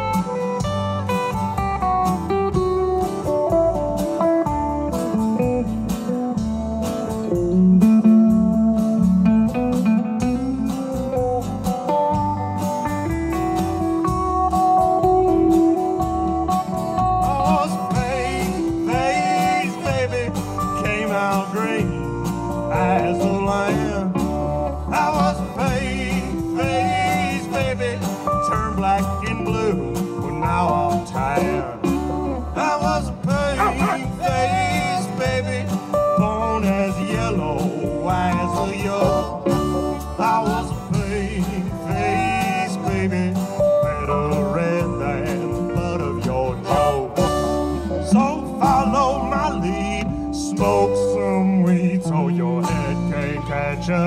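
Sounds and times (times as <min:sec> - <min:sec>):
lead guitar: 0:00.0 - 0:54.0
live band playing: 0:00.0 - 0:54.0.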